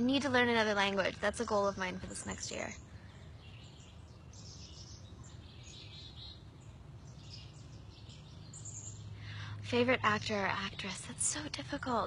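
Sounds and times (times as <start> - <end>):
birds chirping: 0.0 - 12.0
low background noise: 0.0 - 12.0.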